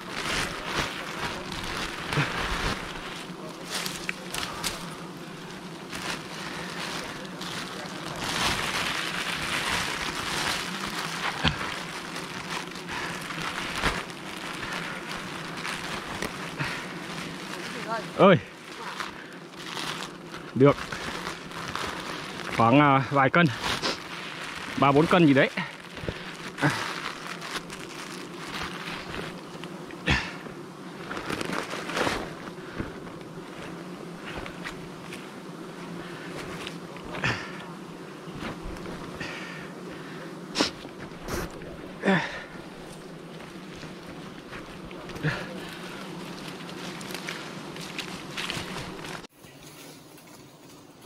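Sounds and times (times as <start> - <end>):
plastic bag crinkling: 0.0 - 29.8, 30.9 - 35.2, 41.0 - 49.3
bees buzzing: 0.0 - 51.0
rustling: 0.0 - 51.0.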